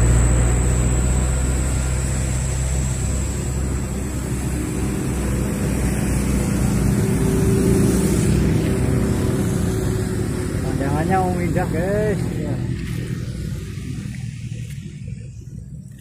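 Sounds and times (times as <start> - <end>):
motorcycle and truck engines: 0.0 - 16.0.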